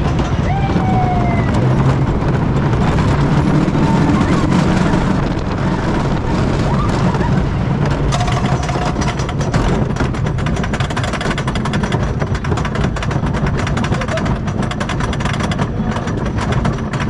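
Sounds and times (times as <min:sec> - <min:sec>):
rapid clatter of lift hill: 0:00.0 - 0:17.0
roller coaster rumbling on wooden track: 0:00.0 - 0:17.0.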